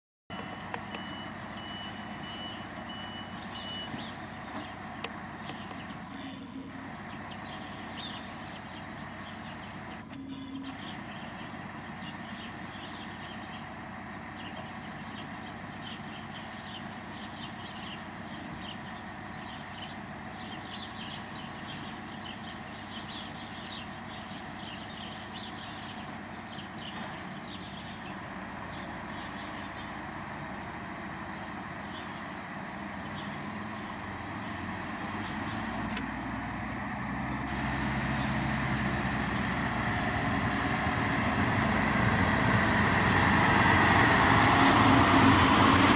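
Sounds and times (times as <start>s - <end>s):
diesel train engines idling: 0.3s - 45.9s.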